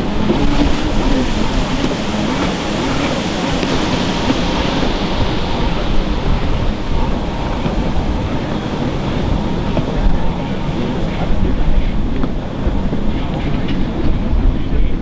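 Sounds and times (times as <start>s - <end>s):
jet ski engines: 0.0s - 15.0s
wind noise on microphone: 0.0s - 15.0s.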